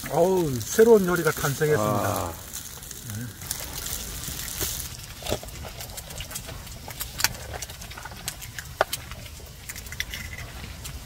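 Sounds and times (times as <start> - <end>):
rice frying in oil: 0.0 - 11.0.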